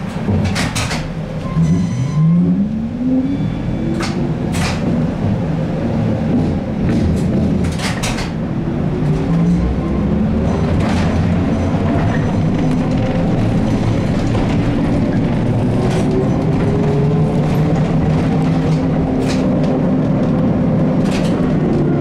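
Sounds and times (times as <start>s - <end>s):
trolleybus motor whining: 3.6s - 22.0s
vehicle body rumble: 3.6s - 22.0s.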